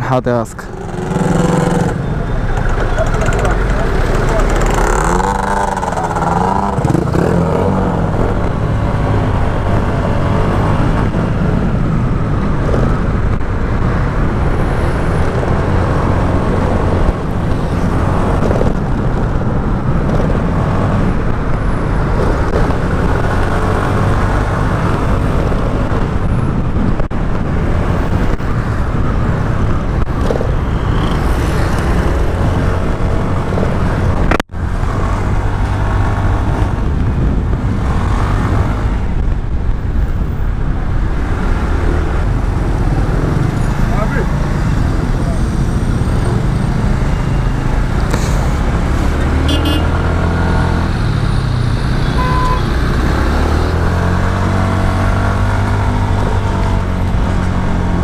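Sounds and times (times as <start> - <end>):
car traffic: 0.0 - 58.0
wind rumble on microphone: 1.2 - 58.0.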